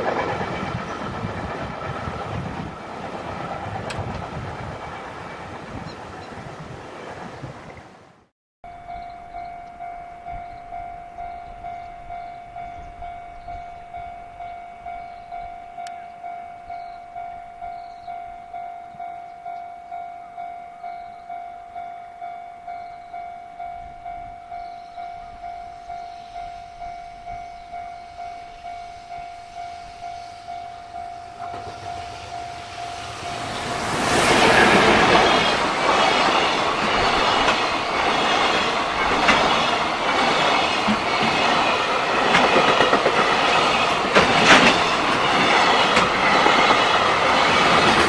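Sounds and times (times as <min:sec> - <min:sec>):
freight train rumble: 0:00.0 - 0:48.0
level-crossing bell ringing: 0:08.7 - 0:47.4.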